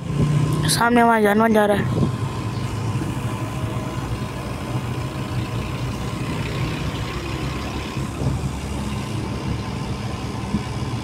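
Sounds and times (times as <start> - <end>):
car cabin engine and road drone: 0.0 - 11.0.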